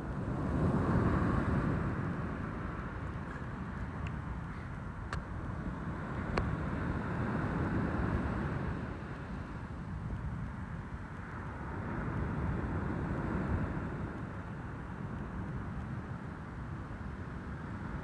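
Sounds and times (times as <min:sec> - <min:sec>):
surf washing on beach: 0:00.0 - 0:18.0.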